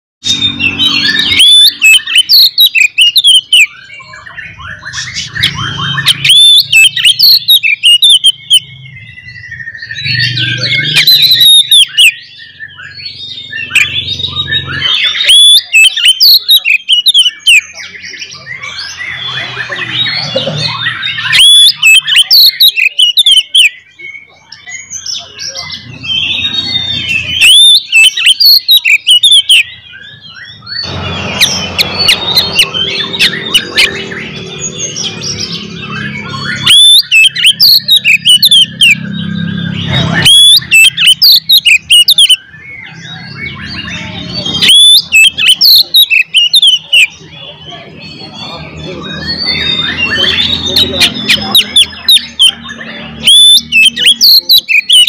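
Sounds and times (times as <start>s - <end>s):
bird singing whistles and chirps: 0.2s - 55.0s.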